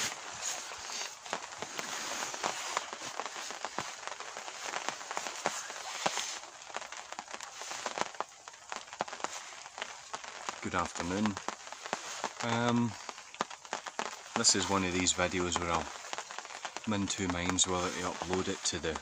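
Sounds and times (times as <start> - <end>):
rain falling: 0.0 - 19.0
raindrop ticks: 0.0 - 19.0.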